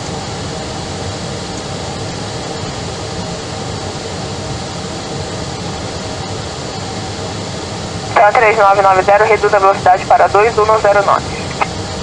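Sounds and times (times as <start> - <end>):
airliner engine and airflow noise: 0.0 - 12.0
faint steady hum: 0.3 - 12.0.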